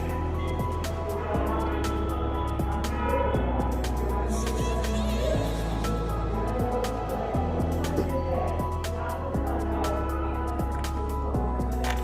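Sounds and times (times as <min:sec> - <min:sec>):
synth music with steady beat: 0:00.0 - 0:12.0.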